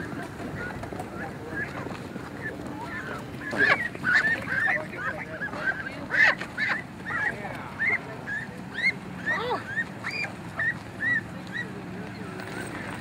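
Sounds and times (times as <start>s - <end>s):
geese calling: 0.0s - 13.0s.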